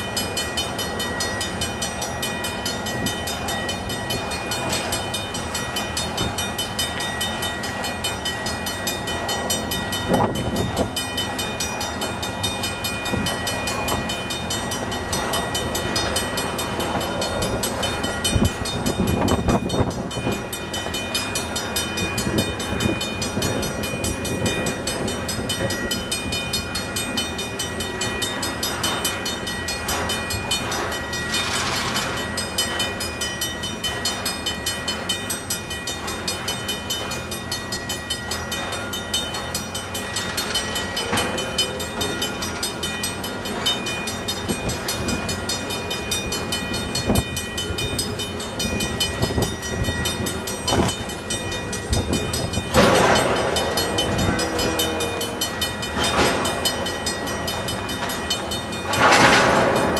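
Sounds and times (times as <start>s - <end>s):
crossing warning bell ringing: 0.0s - 59.9s
train wheels clacking over rail joints: 0.0s - 59.9s.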